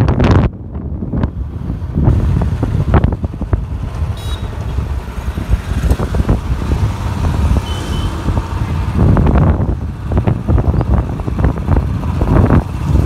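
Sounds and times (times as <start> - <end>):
wind buffeting microphone: 0.0 - 13.0
motorcycle engine running: 1.5 - 13.0.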